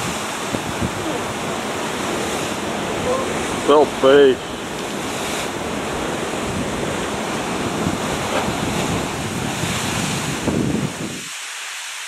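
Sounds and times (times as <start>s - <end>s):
wind on microphone: 0.0s - 11.4s
surf washing against rocky shore: 0.0s - 12.0s.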